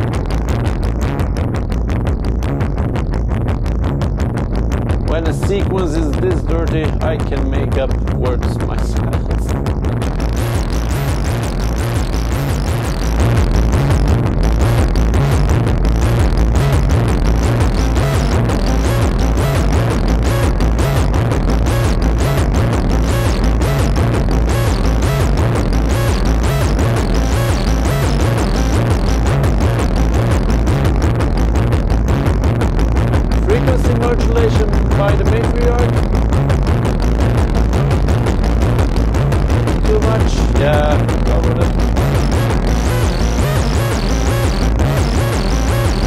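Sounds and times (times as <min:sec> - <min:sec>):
grungy techno synthesizer pattern: 0:00.0 - 0:46.0
pulsing bass: 0:00.0 - 0:46.0.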